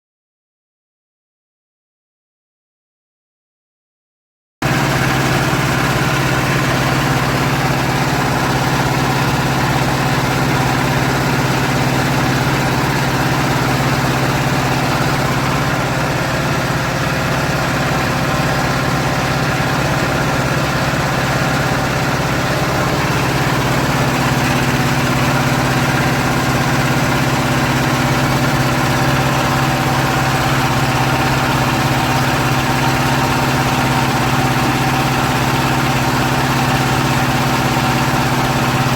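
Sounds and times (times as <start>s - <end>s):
hydraulic power unit humming: 4.6s - 38.9s.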